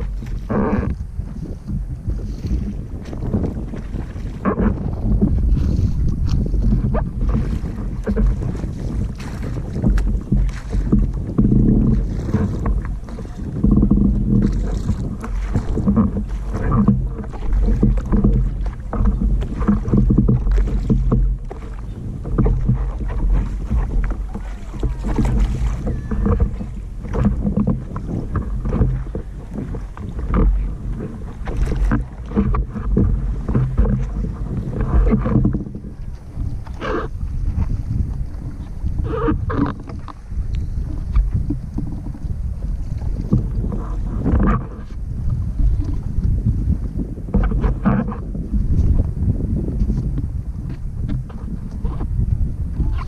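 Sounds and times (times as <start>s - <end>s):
boat motor humming: 0.0s - 53.0s
water splashing against hull: 0.0s - 53.0s
wind buffeting microphone: 0.0s - 53.0s.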